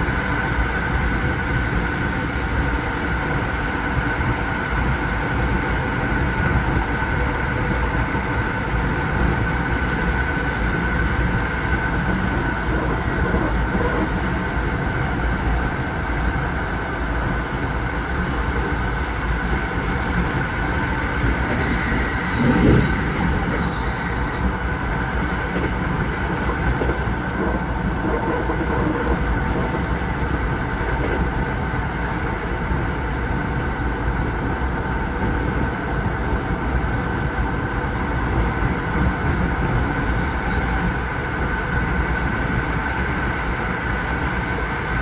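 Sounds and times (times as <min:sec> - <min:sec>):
high whine: 0:00.0 - 0:45.0
train rumbling from inside carriage: 0:00.0 - 0:45.0.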